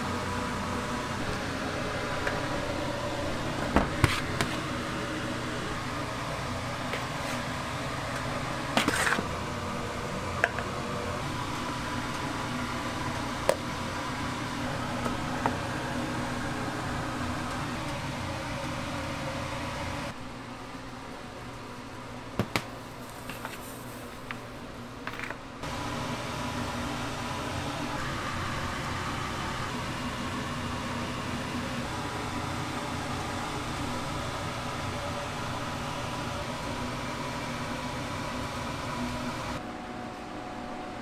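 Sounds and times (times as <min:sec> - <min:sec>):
machine hum with hiss: 0:00.0 - 0:41.0.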